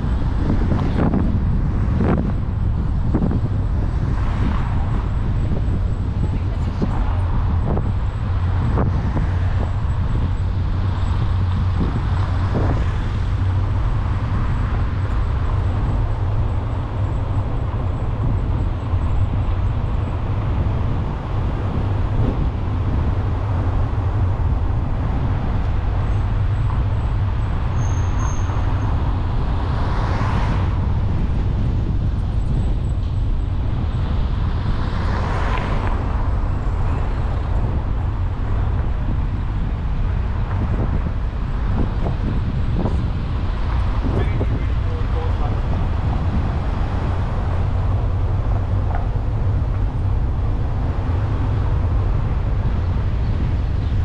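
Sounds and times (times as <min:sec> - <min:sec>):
car tyre and engine rumble: 0:00.0 - 0:54.0
passing vehicles whooshing: 0:00.0 - 0:54.0.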